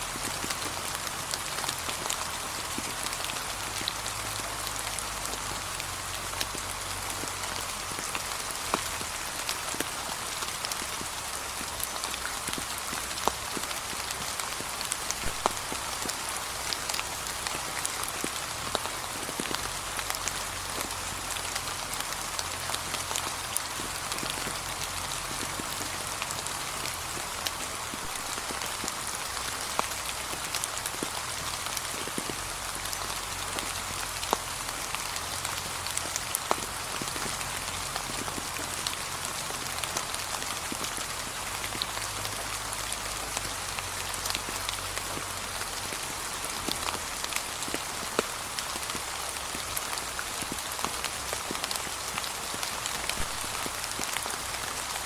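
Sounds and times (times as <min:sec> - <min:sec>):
rain pattering on leaves: 0:00.0 - 0:55.0
raindrops ticking: 0:00.0 - 0:55.0.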